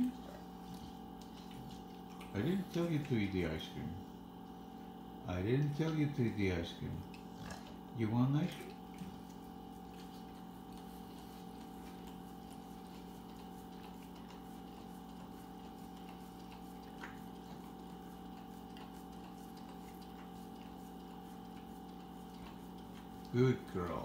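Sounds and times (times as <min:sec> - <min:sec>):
steady low hum: 0:00.0 - 0:24.0
dog licking wet clicks: 0:00.6 - 0:03.8, 0:05.5 - 0:24.0.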